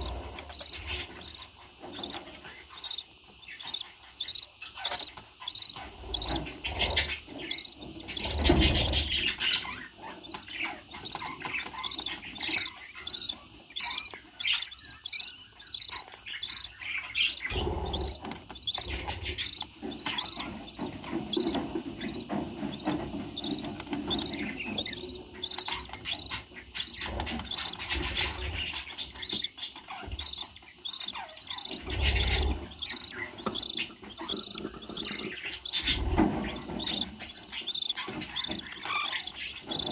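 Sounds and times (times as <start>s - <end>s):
parrot chirping and chattering: 0.0s - 39.9s.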